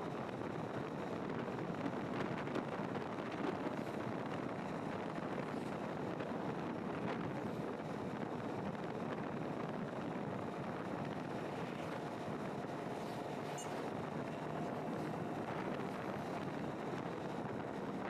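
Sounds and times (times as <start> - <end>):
wind buffeting microphone: 0.0 - 18.0
vehicle road noise: 3.3 - 18.0.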